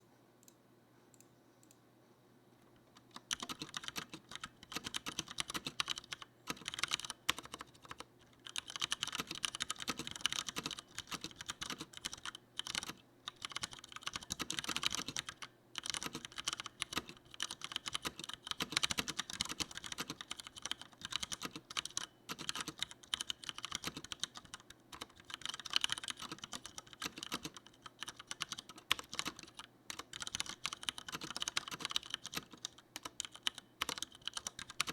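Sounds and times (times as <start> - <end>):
mechanical keyboard typing: 3.0 - 34.9.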